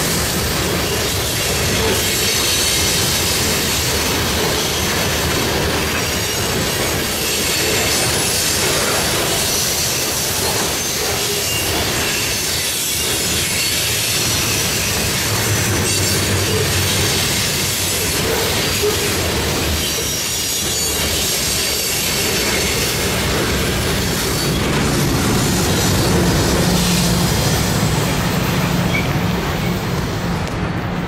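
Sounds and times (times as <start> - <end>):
diesel locomotive engine hum: 0.0 - 31.0
train wheels rumbling on rails: 0.0 - 31.0
wheel squeal: 0.8 - 25.6, 28.4 - 29.8.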